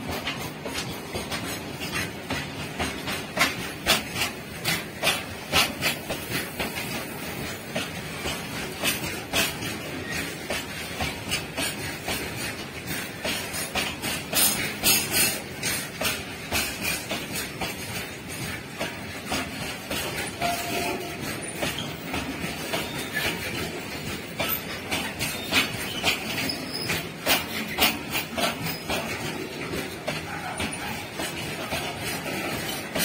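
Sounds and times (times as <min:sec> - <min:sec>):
train wheels clattering on rails: 0:00.0 - 0:33.0.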